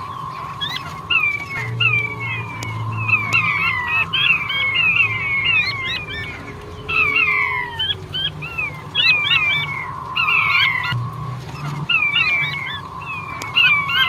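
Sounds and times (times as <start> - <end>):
low steady hum: 0.0 - 14.0
quail whistled calls: 0.0 - 14.0.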